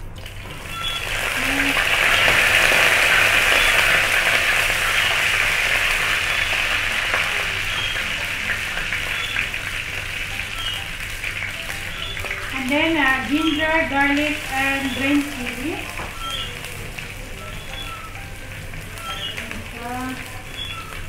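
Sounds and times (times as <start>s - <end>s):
leaves crackling in hot oil: 0.0s - 21.0s.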